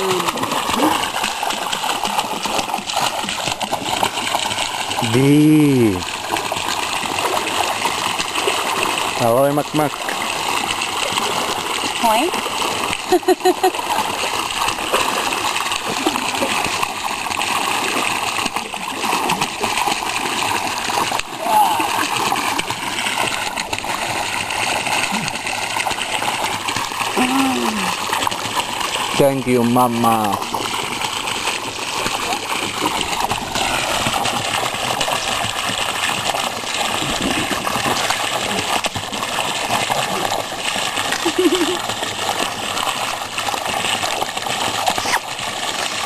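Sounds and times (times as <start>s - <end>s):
waterfall pouring: 0.0s - 46.0s.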